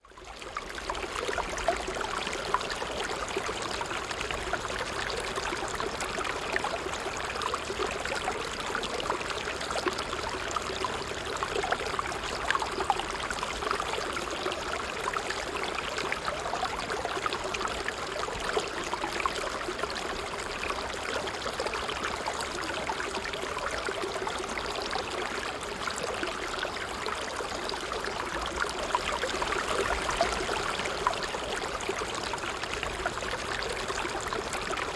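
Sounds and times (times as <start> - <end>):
water trickling: 0.2 - 34.9.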